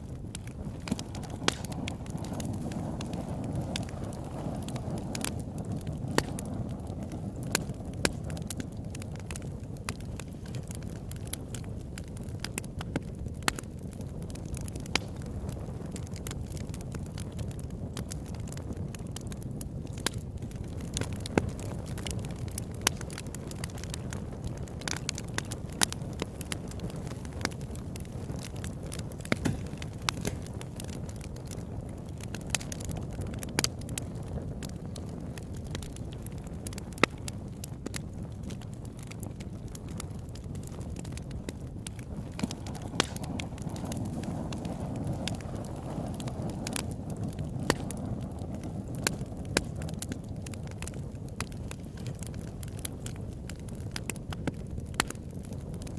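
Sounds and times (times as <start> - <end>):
campfire crackling: 0.0 - 55.9
low rumble of flame: 0.0 - 55.9.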